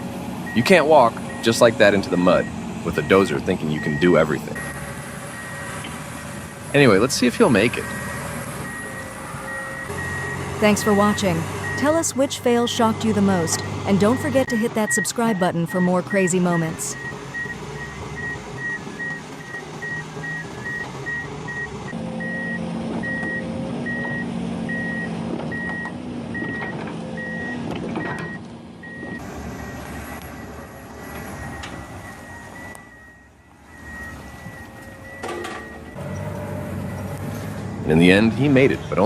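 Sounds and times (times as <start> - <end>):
diesel engine under load: 0.0 - 39.0
reversing alarm beeping: 2.4 - 6.4, 7.8 - 37.9.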